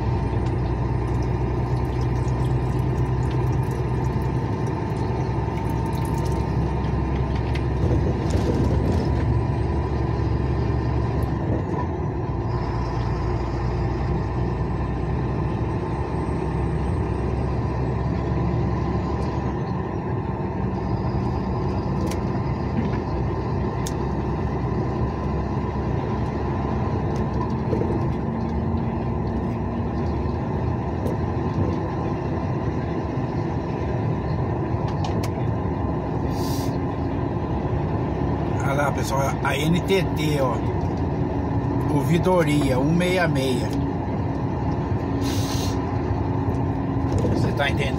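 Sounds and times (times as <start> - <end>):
engine drone inside vehicle: 0.0 - 47.9.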